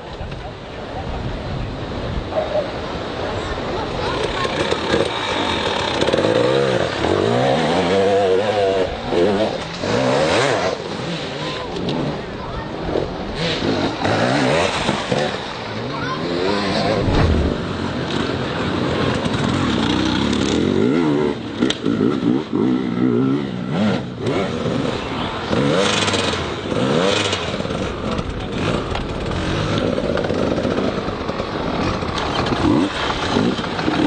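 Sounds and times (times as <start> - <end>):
motorcycle engines revving: 2.2 - 34.0.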